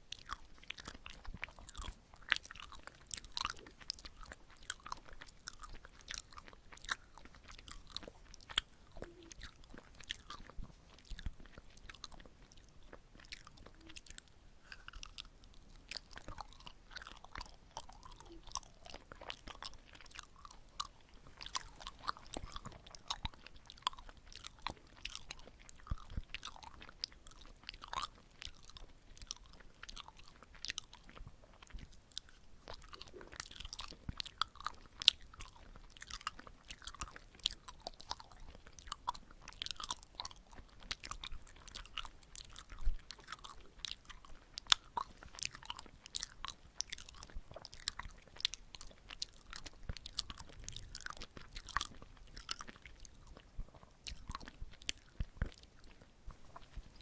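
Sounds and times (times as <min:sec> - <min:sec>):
close-up chewing with mouth clicks: 0:00.0 - 0:57.0.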